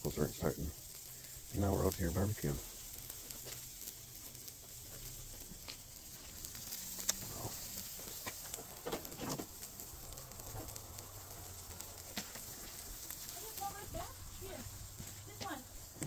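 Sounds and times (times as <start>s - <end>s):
charcoal crackles and pops: 0.0s - 16.0s
chicken sizzling on charcoal grill: 0.0s - 16.0s.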